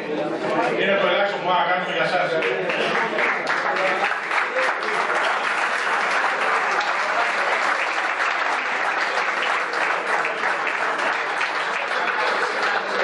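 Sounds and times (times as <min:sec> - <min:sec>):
audience applauding: 0:02.3 - 0:13.0.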